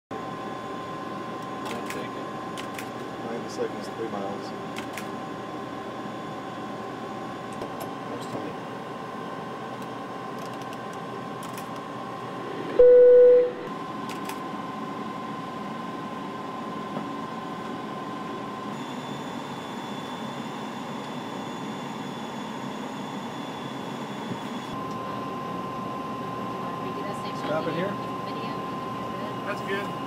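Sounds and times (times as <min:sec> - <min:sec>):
cockpit background hum: 0:00.1 - 0:30.0
faint steady whine: 0:00.2 - 0:30.0.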